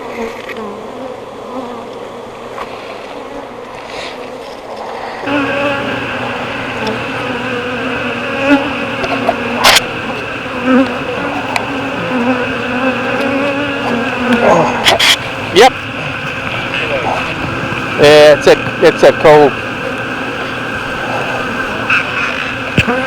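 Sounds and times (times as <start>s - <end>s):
bee swarm buzzing: 0.0s - 23.0s.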